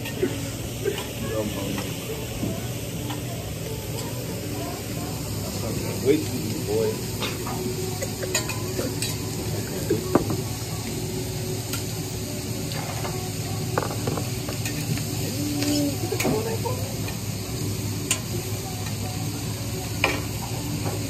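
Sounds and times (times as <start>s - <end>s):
food sizzling on griddle: 0.0s - 21.0s.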